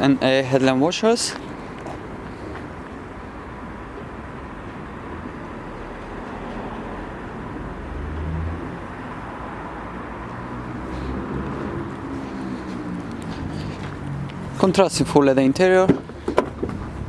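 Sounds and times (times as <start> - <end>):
road traffic rumble and hiss: 0.0 - 17.0.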